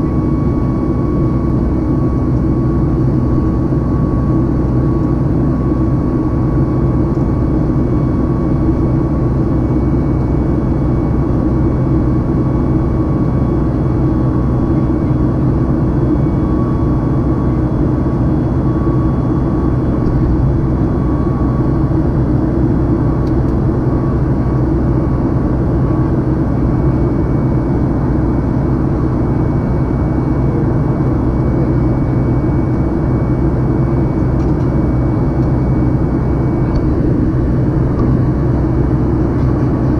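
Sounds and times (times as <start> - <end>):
airplane cabin drone: 0.0 - 39.9
faint high engine whine: 0.0 - 39.9.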